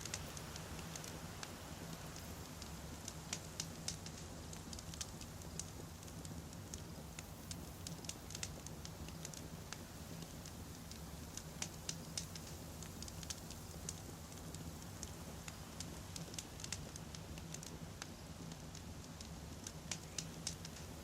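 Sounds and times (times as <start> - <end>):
campfire crackling and popping: 0.0 - 21.0
low rumble of burning logs: 0.0 - 21.0.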